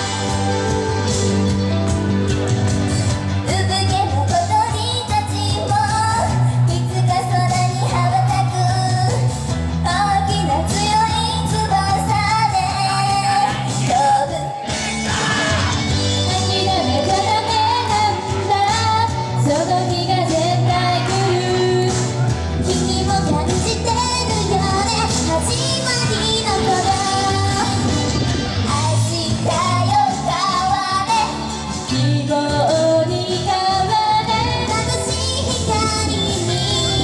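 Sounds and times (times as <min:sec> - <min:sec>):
live pop song over sound system: 0:00.0 - 0:37.0.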